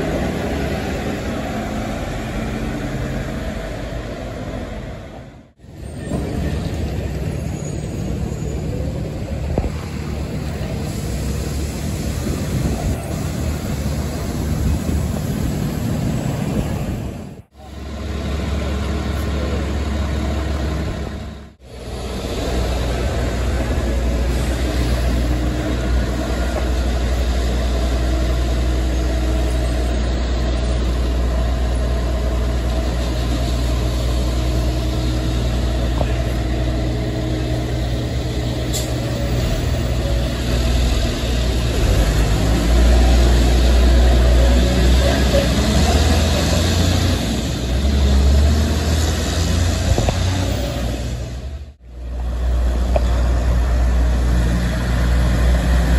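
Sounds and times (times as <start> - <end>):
box truck engine: 0.0 - 55.9
diesel truck engine rumbling: 0.0 - 55.9
street traffic: 0.0 - 55.9.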